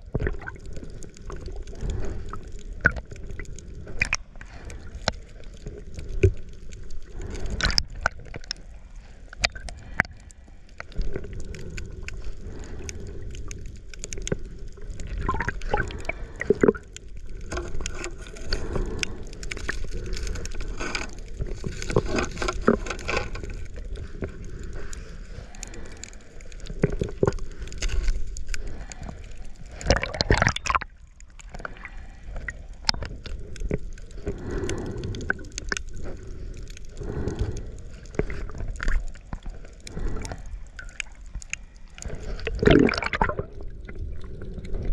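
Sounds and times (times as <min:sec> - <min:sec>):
water sloshing underwater: 0:00.0 - 0:44.9.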